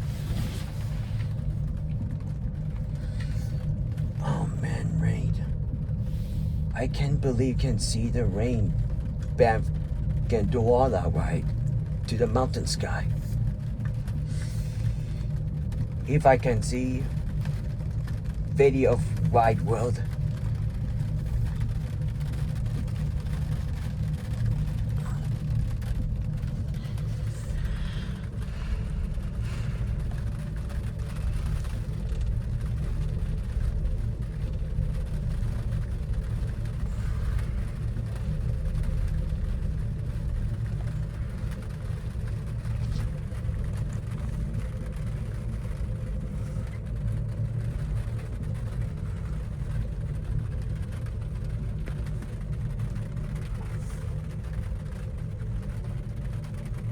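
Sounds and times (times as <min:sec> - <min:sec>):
gondola cabin rumble and hum: 0:00.0 - 0:56.9.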